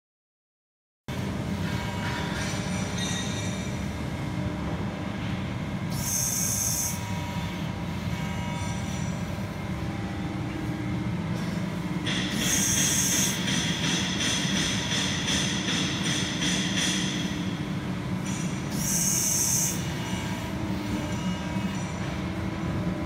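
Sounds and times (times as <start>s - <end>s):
hydraulic unit humming: 1.1s - 23.0s.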